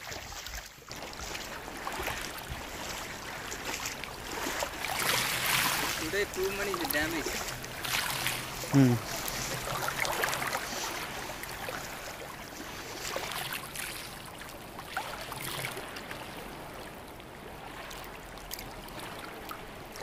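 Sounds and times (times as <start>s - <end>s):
sea water lapping on shore: 0.0s - 20.0s
small splashes: 0.0s - 20.0s.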